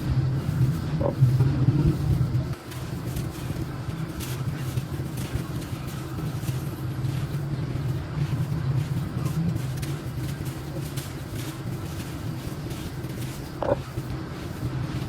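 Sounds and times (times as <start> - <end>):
steady low hum: 0.0 - 15.0
sand-cement crunching: 2.0 - 15.0.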